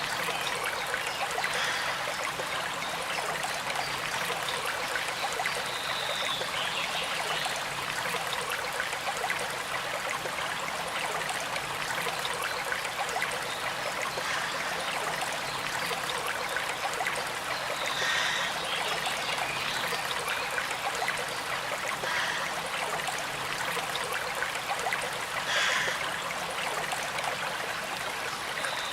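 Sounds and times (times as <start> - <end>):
river water flowing and trickling: 0.0 - 28.9.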